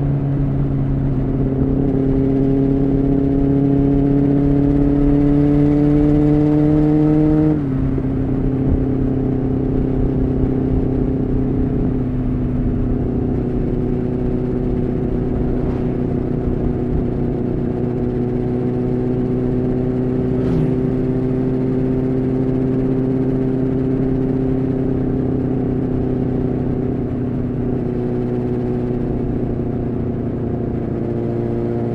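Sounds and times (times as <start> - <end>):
motorcycle engine shifting gears: 0.8 - 31.9.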